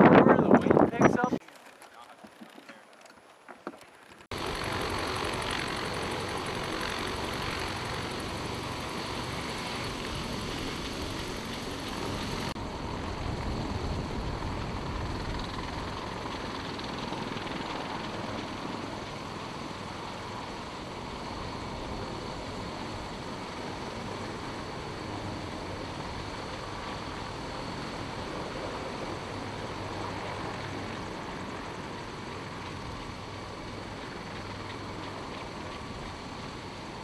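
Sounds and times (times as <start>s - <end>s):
helicopter turbine engines whining: 0.0s - 37.0s.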